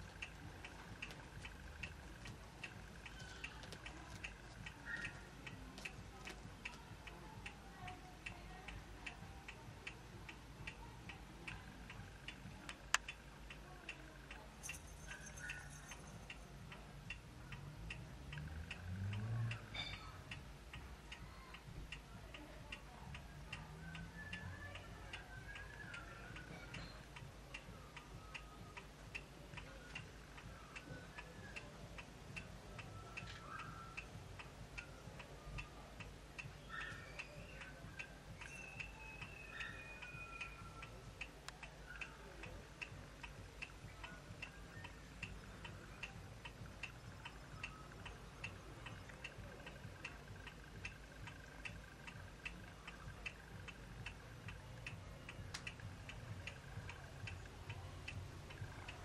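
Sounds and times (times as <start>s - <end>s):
faint steady ticking: 0.0s - 59.0s.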